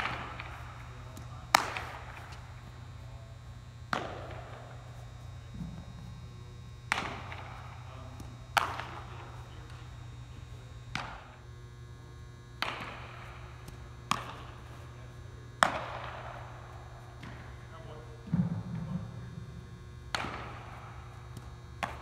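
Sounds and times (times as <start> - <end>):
baseballs smacking into gloves: 0.0 - 11.4, 12.6 - 14.9, 15.6 - 17.6, 20.1 - 22.0
low hum: 0.0 - 22.0.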